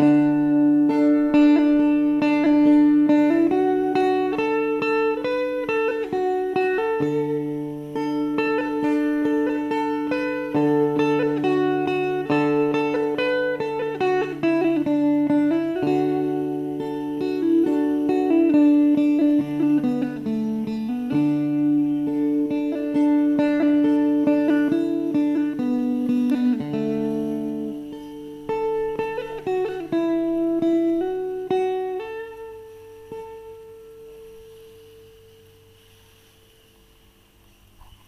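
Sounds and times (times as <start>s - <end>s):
plucked lute melody: 0.0s - 34.5s.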